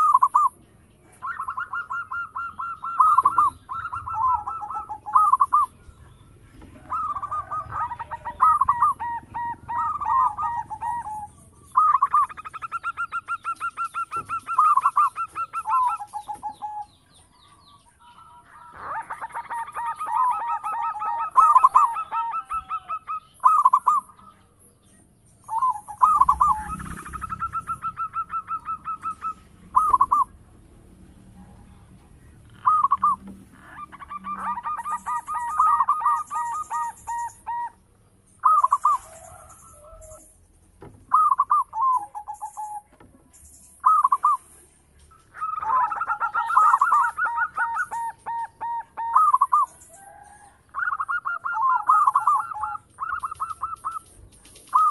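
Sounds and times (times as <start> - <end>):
dove cooing: 0.0 - 24.6, 25.4 - 43.1, 43.8 - 54.9.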